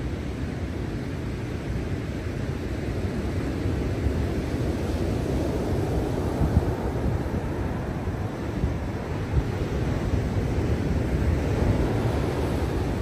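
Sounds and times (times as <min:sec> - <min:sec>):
ocean surf crashing: 0:00.0 - 0:13.0.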